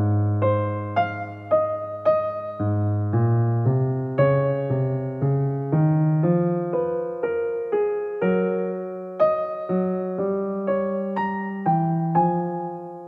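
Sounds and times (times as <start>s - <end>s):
electric piano notes: 0.0s - 13.0s.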